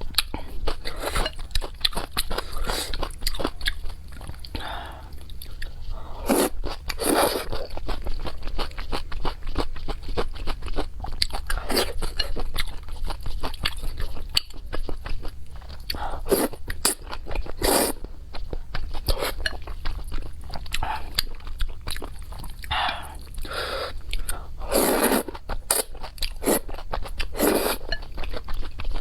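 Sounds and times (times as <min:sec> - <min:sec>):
chewing crisp peppers: 0:00.0 - 0:29.0.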